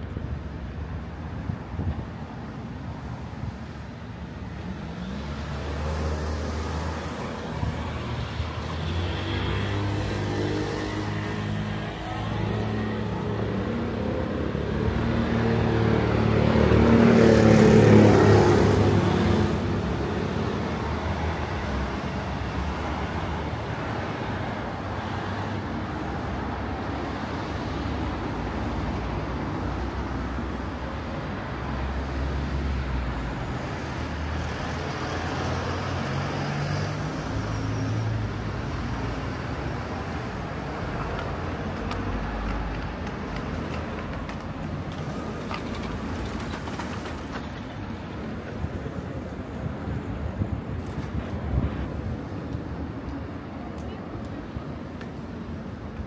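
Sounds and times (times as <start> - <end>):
road traffic hum: 0.0 - 56.0.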